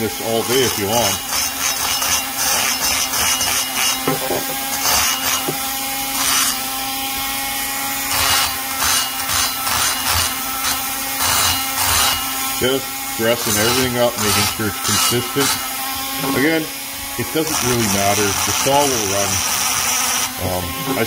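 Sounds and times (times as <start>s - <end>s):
burr grinding metal: 0.0s - 21.0s
rotary tool motor whine: 0.0s - 21.0s.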